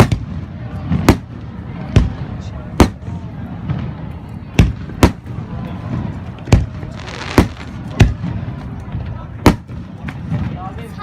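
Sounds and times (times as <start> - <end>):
fireworks bursting with bangs: 0.0 - 10.7
fireworks crackling: 0.0 - 11.0.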